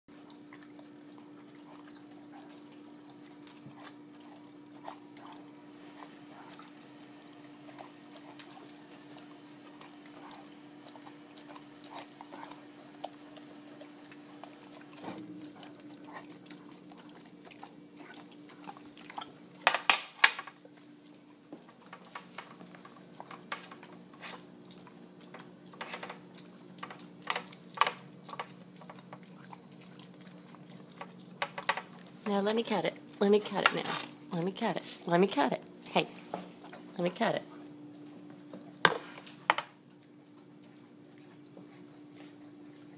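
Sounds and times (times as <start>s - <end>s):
dogs licking and chewing: 0.1s - 42.9s.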